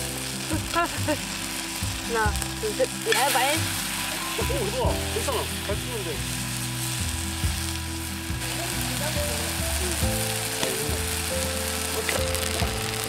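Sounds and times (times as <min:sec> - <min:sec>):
background music: 0:00.0 - 0:13.0
food sizzling on a griddle: 0:00.0 - 0:13.0.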